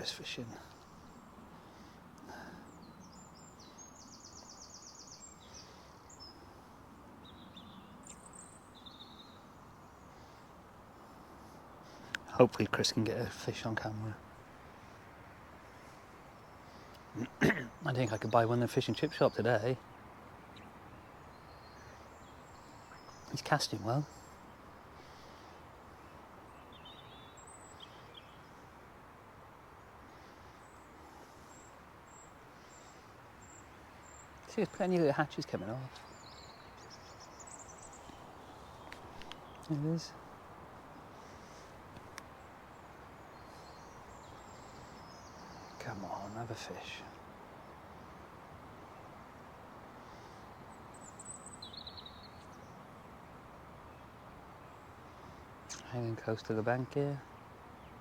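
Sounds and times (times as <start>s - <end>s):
faint bird chirps: 0.0s - 28.9s, 29.8s - 52.9s.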